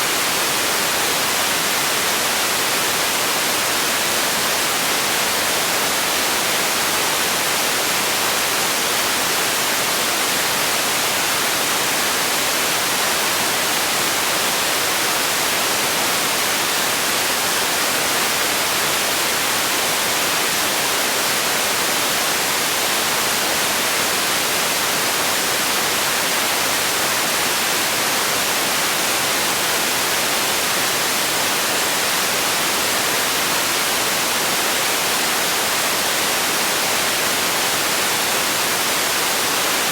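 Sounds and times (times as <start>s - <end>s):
steady high-frequency hiss: 0.0s - 39.9s.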